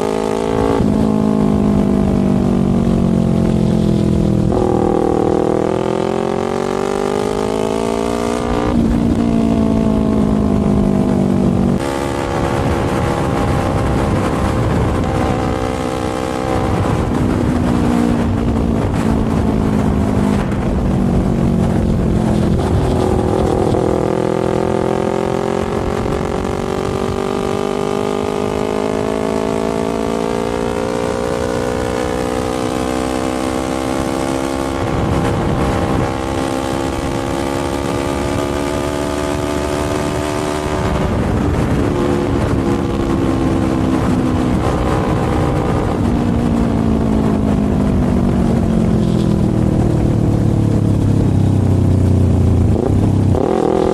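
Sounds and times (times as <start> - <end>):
motorcycle engine revving: 0.0 - 53.9
wind rush: 0.0 - 53.9.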